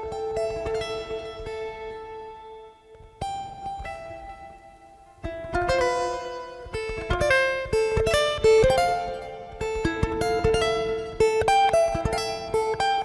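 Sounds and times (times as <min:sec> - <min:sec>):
plucked string instrument melody: 0:00.0 - 0:13.0.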